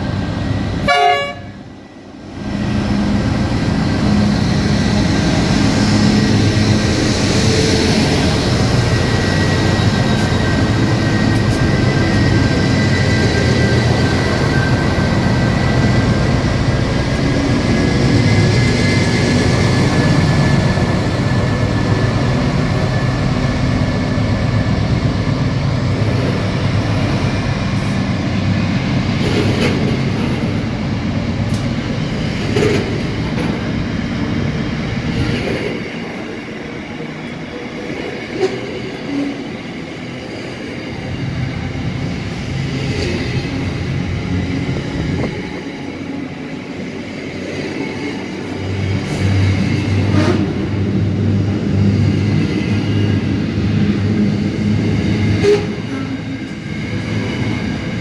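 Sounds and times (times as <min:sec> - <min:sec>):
diesel locomotive rumble: 0:00.0 - 0:58.0.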